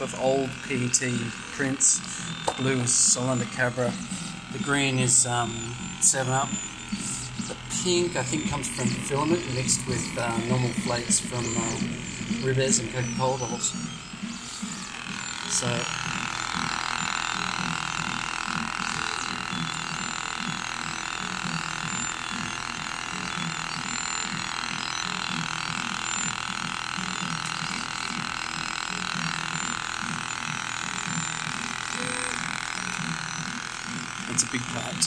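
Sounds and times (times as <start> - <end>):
fan whir: 0.0 - 35.0
motors pulsing: 0.0 - 35.0.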